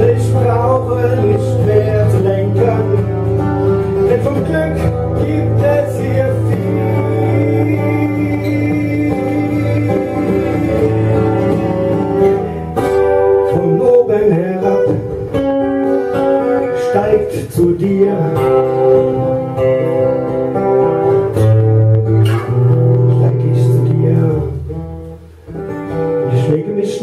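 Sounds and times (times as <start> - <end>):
acoustic guitar chords: 0.0 - 27.0.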